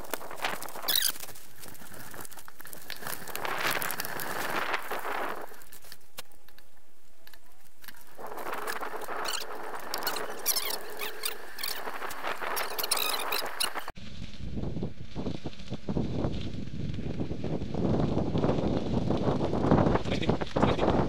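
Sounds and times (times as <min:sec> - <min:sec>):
bicycle tyres crunching on dirt: 0:00.0 - 0:21.0.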